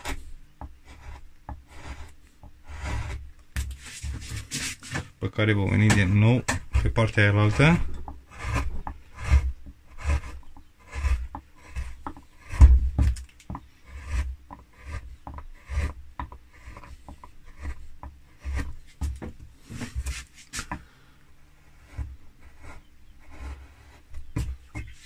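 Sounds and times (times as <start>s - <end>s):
chisel scraping wood: 0.0s - 25.0s.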